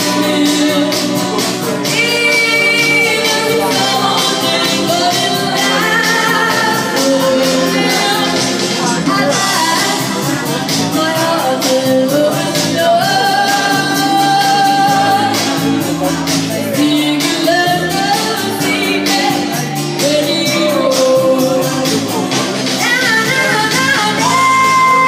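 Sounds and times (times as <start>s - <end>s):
backing track with steady beat: 0.0s - 25.0s.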